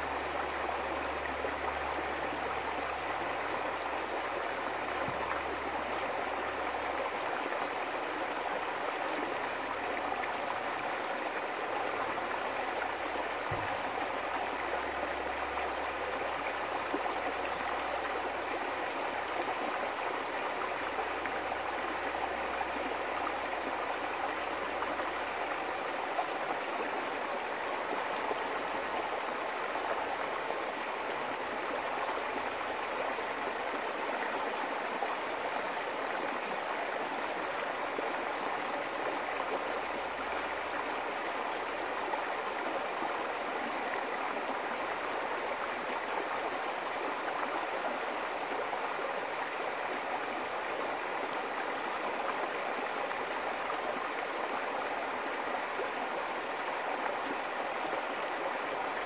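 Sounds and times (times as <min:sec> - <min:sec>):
river flowing over stones: 0:00.0 - 0:59.0.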